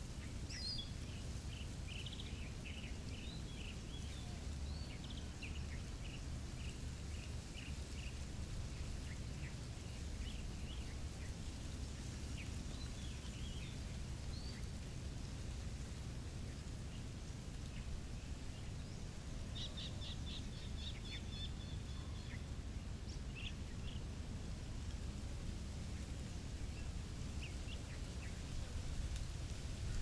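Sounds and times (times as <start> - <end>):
small birds chirping: 0.0 - 14.9, 16.3 - 24.2, 24.8 - 30.0.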